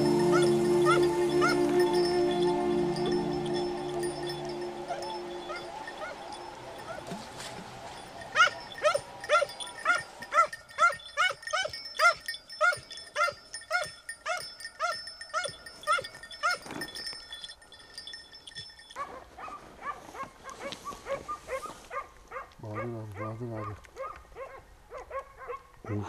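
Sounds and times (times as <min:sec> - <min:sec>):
dogs yelping barks: 0:00.0 - 0:17.4, 0:18.5 - 0:26.0.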